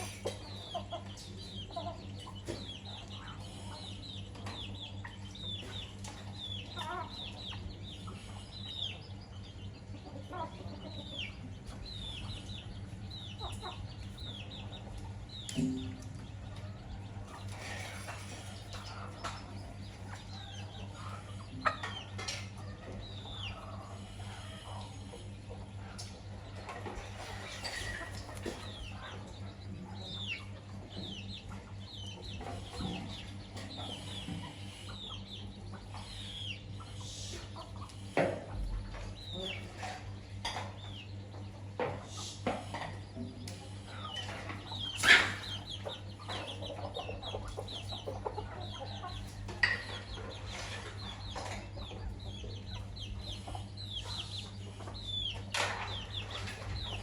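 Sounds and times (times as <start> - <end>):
chicks peeping: 0.0 - 57.0
hen clucking: 0.0 - 57.0
steady low hum: 0.0 - 57.0.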